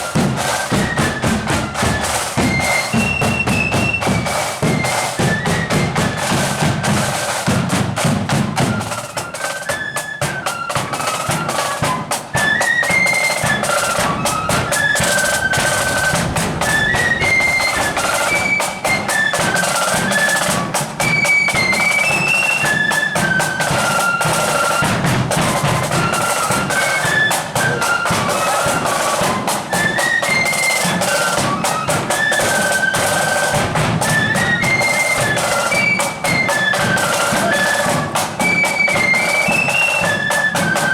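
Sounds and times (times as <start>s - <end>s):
flutes playing melody: 0.0s - 40.9s
snare drum rolls: 0.0s - 40.9s.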